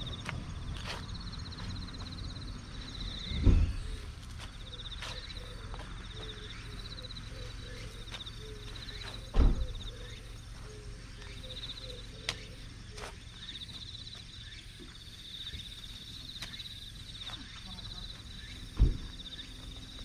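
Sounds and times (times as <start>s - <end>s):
insects chirping in trills: 0.0s - 20.0s.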